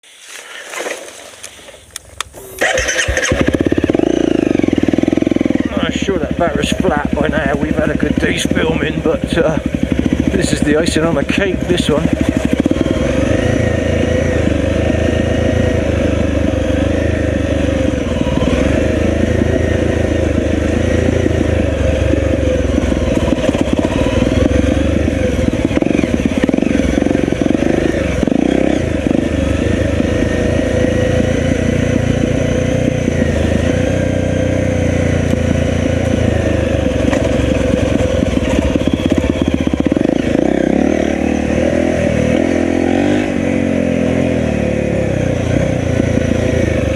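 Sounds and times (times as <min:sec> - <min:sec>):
dirt bike engine revving: 0:02.3 - 0:46.9.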